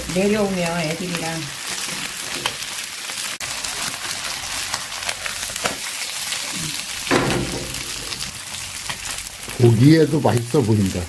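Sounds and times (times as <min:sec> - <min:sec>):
pancake sizzling in oil: 0:00.0 - 0:11.0.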